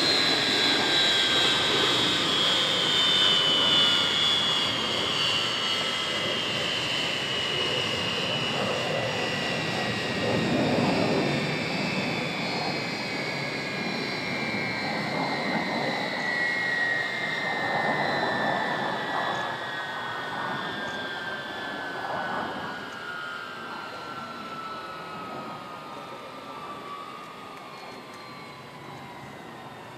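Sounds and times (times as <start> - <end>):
jet engines whining down: 0.0 - 29.9.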